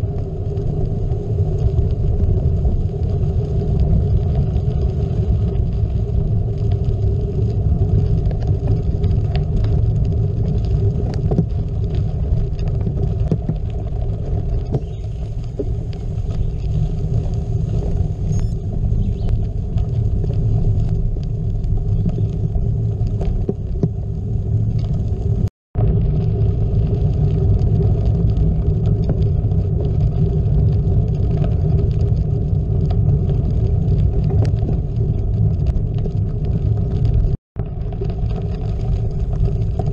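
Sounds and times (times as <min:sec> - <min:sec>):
bike tyres rolling on gravel: 0:00.0 - 0:39.9.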